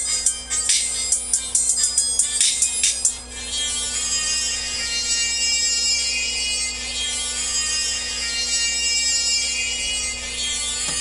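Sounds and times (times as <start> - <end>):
tinny music through a tweeter: 0.0 - 11.0.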